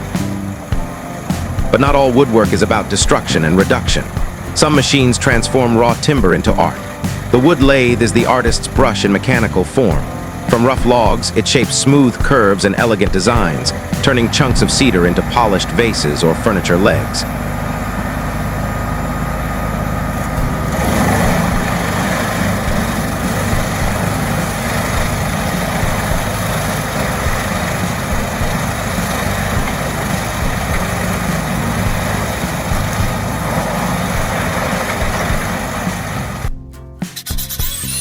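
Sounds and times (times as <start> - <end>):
heavy machine engine running: 0.0 - 36.5.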